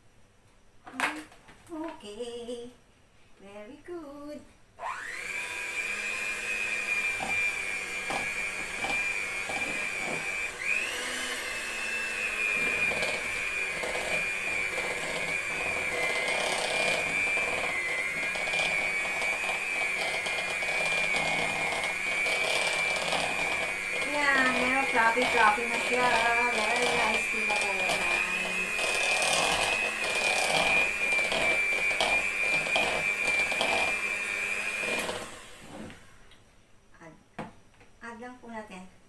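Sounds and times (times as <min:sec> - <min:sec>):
electric hand mixer whining: 0:04.8 - 0:36.2.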